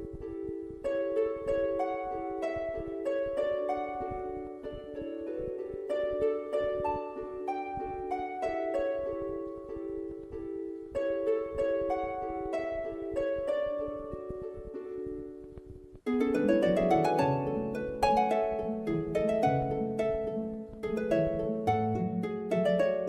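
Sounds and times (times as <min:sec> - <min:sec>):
plucked string music: 0:00.0 - 0:23.0.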